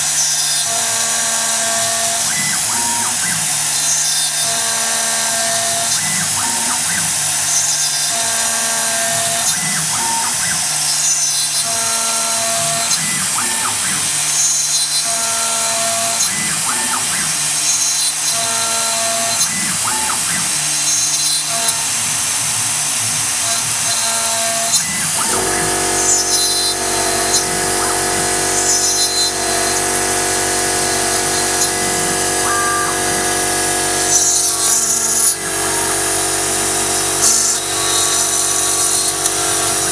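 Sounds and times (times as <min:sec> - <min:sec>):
cnc router cutting whine: 0:00.0 - 0:39.9.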